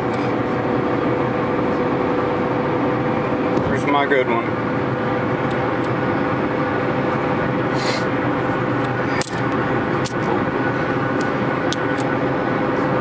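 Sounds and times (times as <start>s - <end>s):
car cabin noise: 0.0s - 13.0s.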